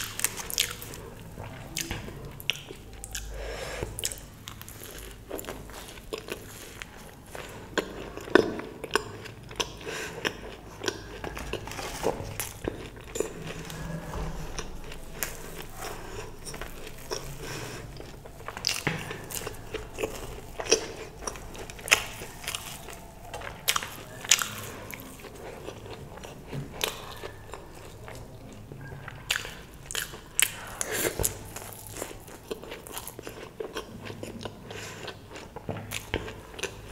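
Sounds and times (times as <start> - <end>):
crunching crisp food: 0.0 - 36.9
person chewing: 0.0 - 36.9.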